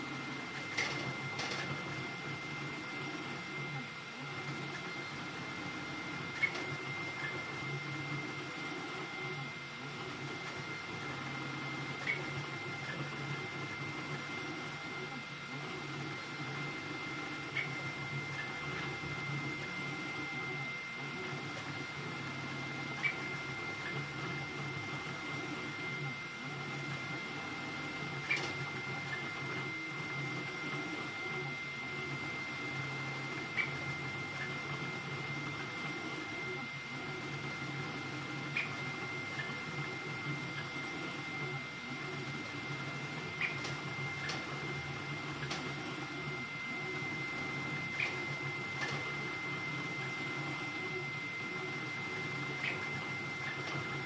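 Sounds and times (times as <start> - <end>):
printer high whine: 0.0 - 54.0.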